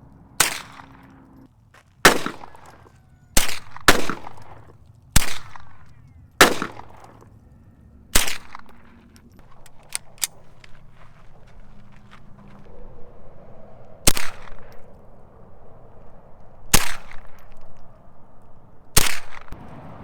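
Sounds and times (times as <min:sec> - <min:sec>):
gunshots with echo: 0:00.0 - 0:07.4, 0:08.1 - 0:20.0.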